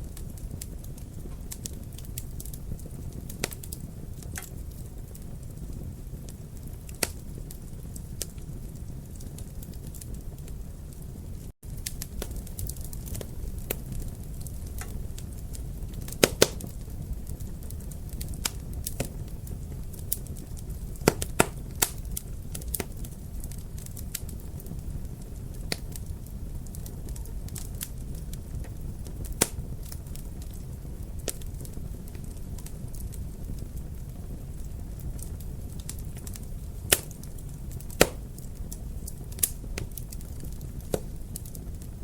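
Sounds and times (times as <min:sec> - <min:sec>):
wood fire crackling: 0:00.0 - 0:42.0
sharp pops of burning wood: 0:00.1 - 0:10.4, 0:11.6 - 0:26.1, 0:26.8 - 0:41.8.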